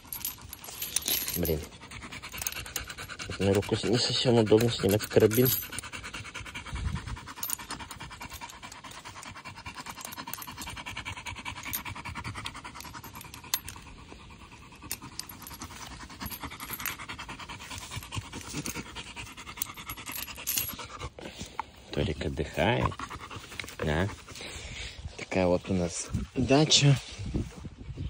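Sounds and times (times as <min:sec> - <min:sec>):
dog panting: 0:00.0 - 0:27.0.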